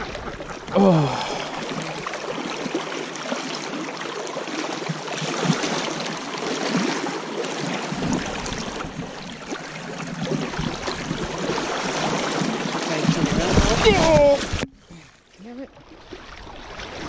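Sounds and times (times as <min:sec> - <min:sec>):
river water rushing: 0:00.0 - 0:14.6
sharp splash: 0:00.0 - 0:14.6.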